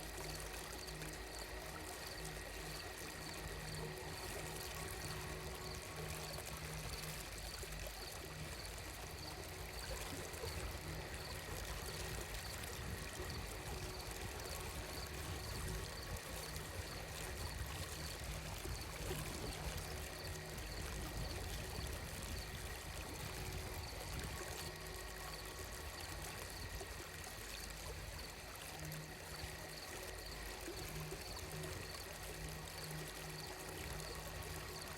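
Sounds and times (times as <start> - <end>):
running water: 0.0 - 34.9.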